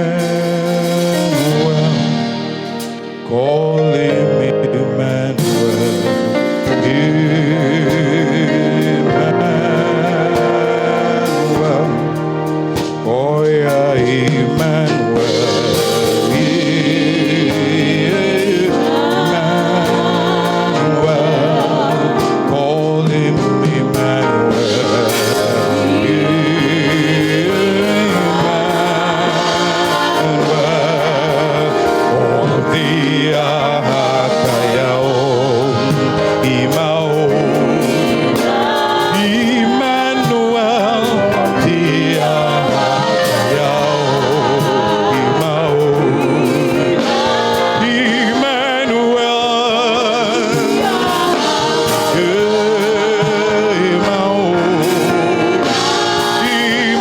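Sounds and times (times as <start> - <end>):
sustained instrumental accompaniment: 0.0 - 57.0
voices singing gospel: 0.0 - 57.0.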